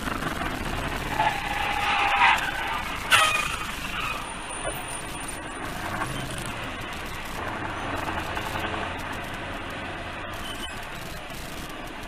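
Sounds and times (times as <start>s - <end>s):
engine and tyre noise in vehicle: 0.0s - 12.0s.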